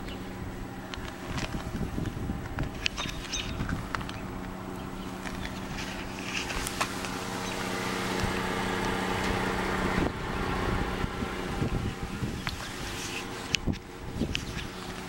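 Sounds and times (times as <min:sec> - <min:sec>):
wind noise: 0:00.0 - 0:07.4, 0:08.1 - 0:15.0
van engine idling: 0:00.0 - 0:15.0.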